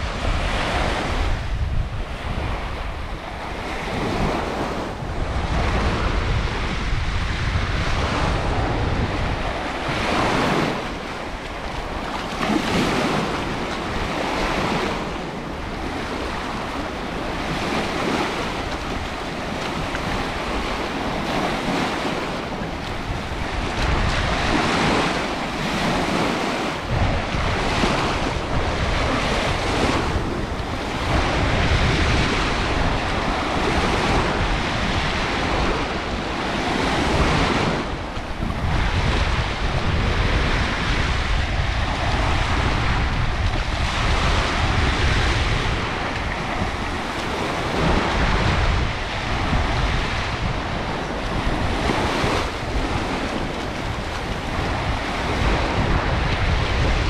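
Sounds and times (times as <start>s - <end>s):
sea waves breaking on beach: 0.0s - 57.0s
wind rumbling on microphone: 0.0s - 57.0s.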